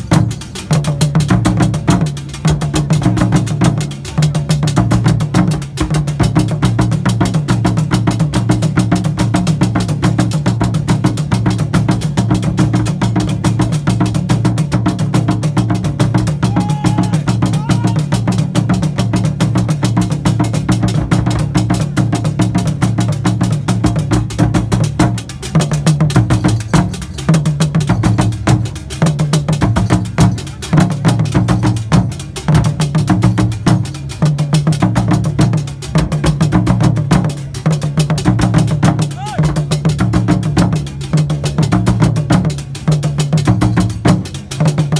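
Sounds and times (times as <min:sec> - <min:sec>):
drum ensemble playing fast rhythm: 0:00.0 - 0:44.9.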